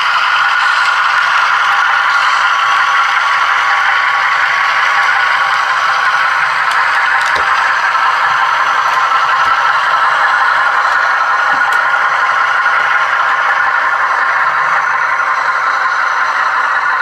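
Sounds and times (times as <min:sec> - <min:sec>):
model locomotive running: 0:00.0 - 0:17.0.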